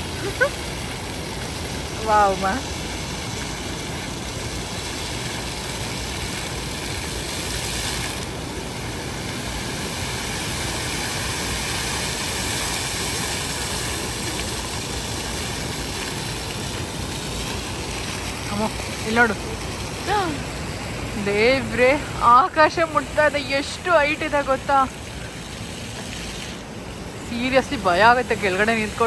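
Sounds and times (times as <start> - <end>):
fountain water splashing: 0.0 - 29.0.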